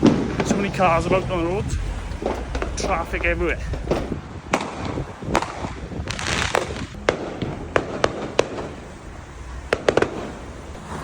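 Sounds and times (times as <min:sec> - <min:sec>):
fireworks bangs: 0:00.0 - 0:11.0
low background rumble: 0:00.0 - 0:11.0.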